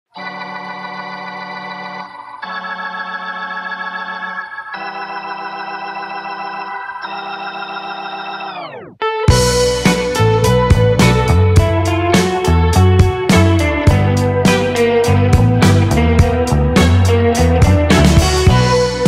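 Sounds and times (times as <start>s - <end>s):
electronic organ chords: 0.1s - 19.0s.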